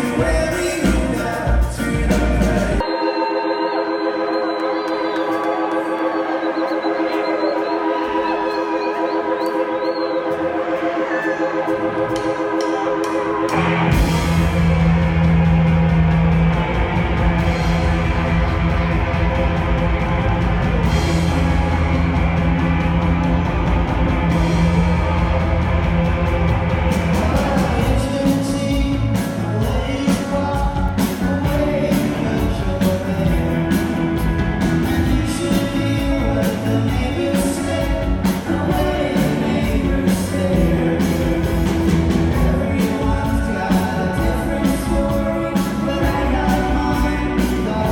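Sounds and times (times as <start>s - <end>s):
drums: 0.0s - 2.9s, 4.2s - 47.9s
live rock band playing: 0.0s - 47.9s.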